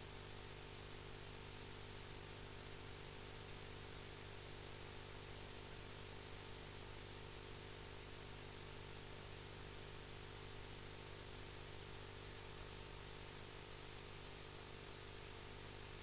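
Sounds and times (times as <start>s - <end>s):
faint steady hiss: 0.0s - 16.0s
low electrical hum: 0.0s - 16.0s.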